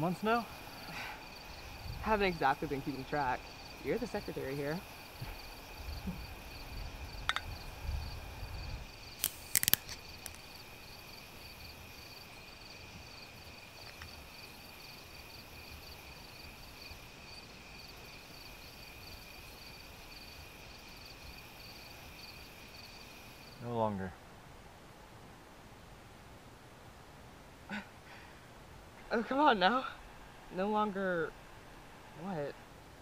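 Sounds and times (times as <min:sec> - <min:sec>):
crickets chirping: 0:00.0 - 0:24.2, 0:27.7 - 0:33.0.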